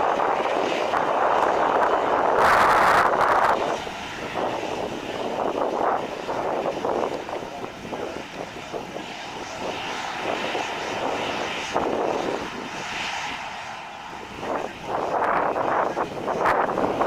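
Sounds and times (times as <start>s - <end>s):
jet engine whine: 0.0s - 17.0s
wind on microphone: 0.0s - 17.0s.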